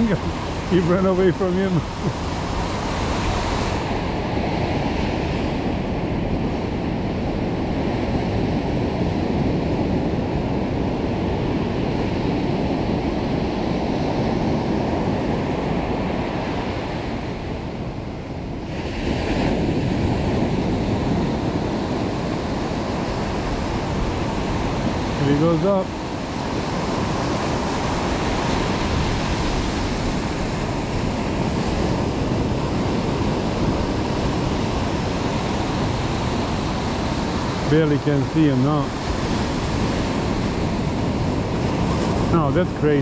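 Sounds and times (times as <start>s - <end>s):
ocean surf washing: 0.0s - 43.0s
wind buffeting microphone: 0.0s - 43.0s.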